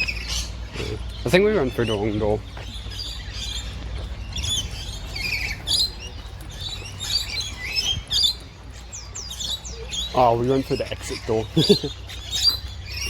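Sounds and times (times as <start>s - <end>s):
low steady rumble: 0.0s - 10.5s
birds chirping and calling: 0.0s - 13.0s.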